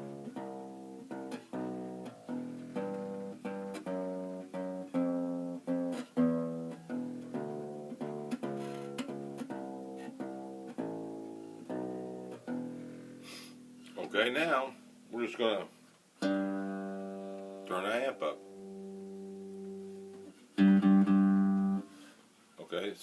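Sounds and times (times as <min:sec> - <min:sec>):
acoustic bass guitar plucked notes: 0:00.0 - 0:15.5, 0:16.2 - 0:21.9.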